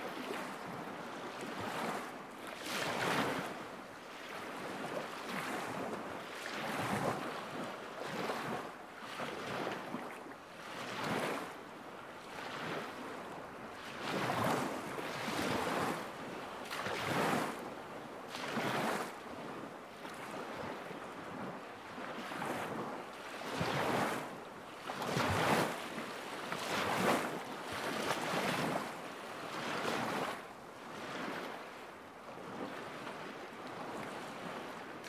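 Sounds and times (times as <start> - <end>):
waves lapping against shore: 0.0 - 35.0.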